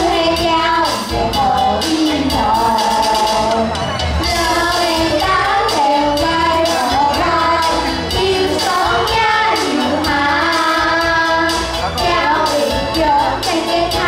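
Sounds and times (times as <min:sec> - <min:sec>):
children singing in unison: 0:00.0 - 0:14.0
musical accompaniment with beat: 0:00.0 - 0:14.0.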